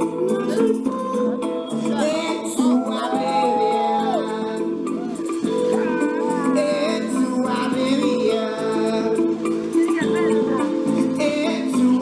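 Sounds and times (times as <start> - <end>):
song with singing voice: 0.0 - 12.0.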